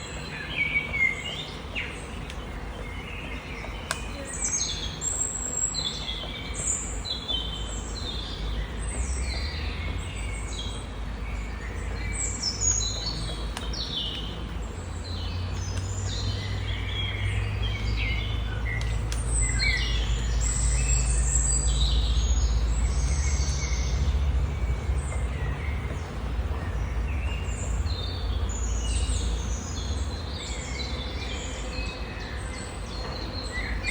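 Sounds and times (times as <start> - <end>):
low rumble of wind: 0.0 - 33.9
small birds chirping and singing: 0.0 - 33.9.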